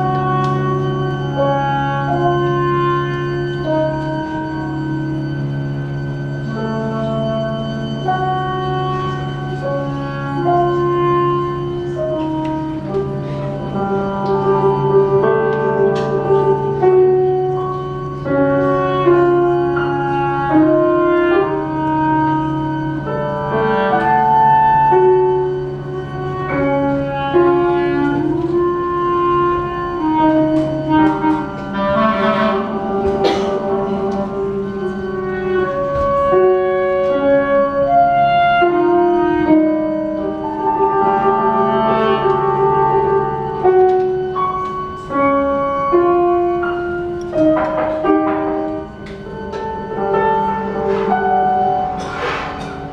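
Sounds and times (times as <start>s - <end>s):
clarinet: 0.0s - 52.9s
piano notes: 0.0s - 52.9s.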